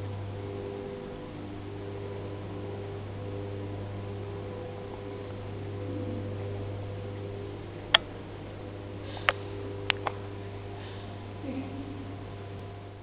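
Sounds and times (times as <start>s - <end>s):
faint high electronic tones: 0.0s - 13.0s
low electronic hum: 0.0s - 13.0s.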